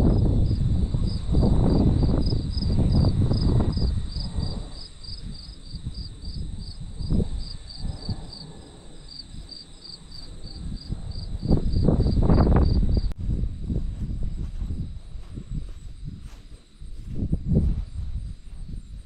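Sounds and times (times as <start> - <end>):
crickets chirping: 0.0 - 19.0
low rumbling noise: 0.0 - 19.0.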